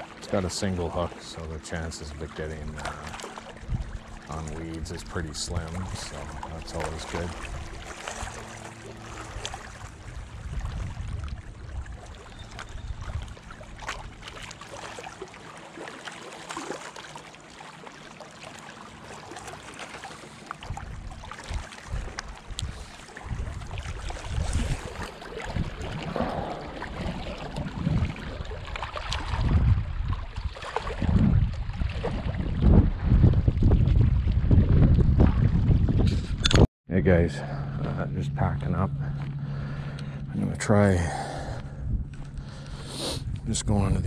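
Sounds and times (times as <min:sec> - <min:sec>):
wind buffeting microphone: 0:01.8 - 0:14.2, 0:20.6 - 0:44.0.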